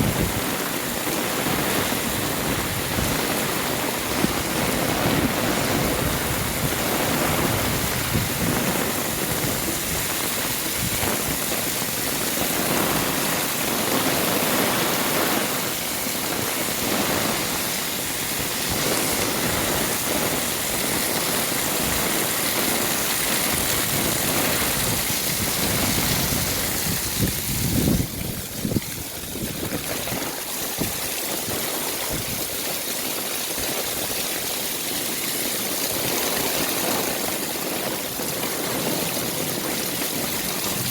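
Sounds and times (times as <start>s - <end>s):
heavy rain falling: 0.0s - 40.9s
water running and splashing: 0.0s - 40.9s.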